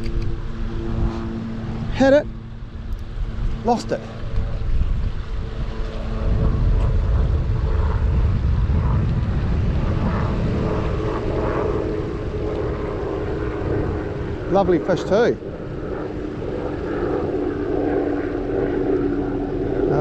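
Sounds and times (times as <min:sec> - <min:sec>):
engine drone: 0:00.0 - 0:20.0
wind rumbling on microphone: 0:00.0 - 0:20.0.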